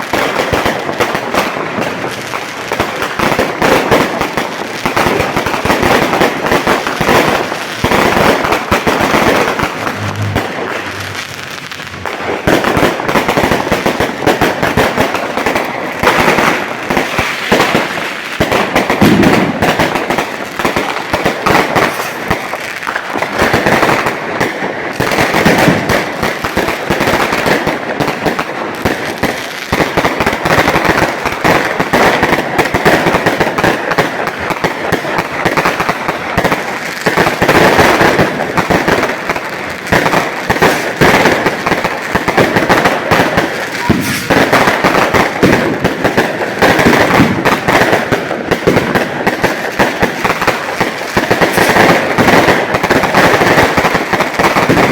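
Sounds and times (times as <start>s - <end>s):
firecrackers crackling: 0.0s - 54.9s.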